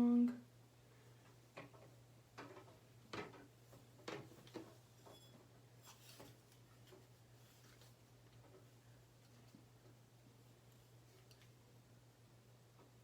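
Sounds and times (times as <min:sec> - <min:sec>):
faint clicks and rustles: 0:01.0 - 0:11.9.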